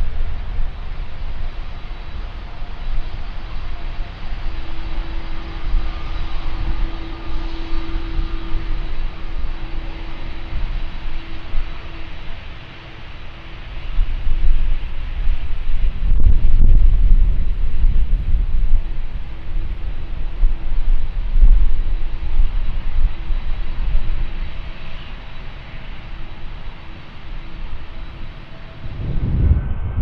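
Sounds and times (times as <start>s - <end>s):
faint engine whine: 0.0s - 30.0s
jet engines roaring: 0.0s - 30.0s.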